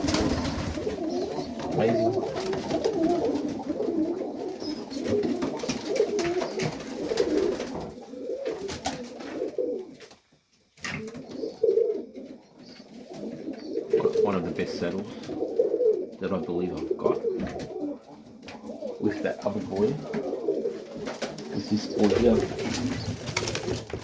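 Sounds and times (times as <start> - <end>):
pigeons cooing: 0.0 - 10.1, 10.8 - 24.0.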